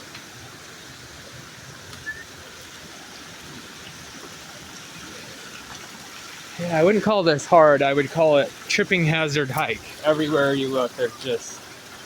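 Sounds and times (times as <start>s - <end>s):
flowing stream rushing: 0.0s - 12.0s.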